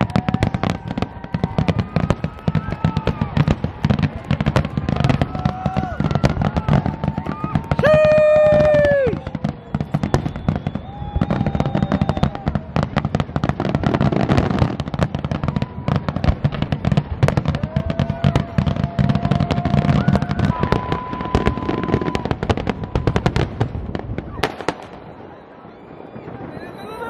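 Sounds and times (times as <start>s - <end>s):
fireworks bursting and crackling: 0.0s - 27.0s
fireworks whistling: 0.0s - 27.0s.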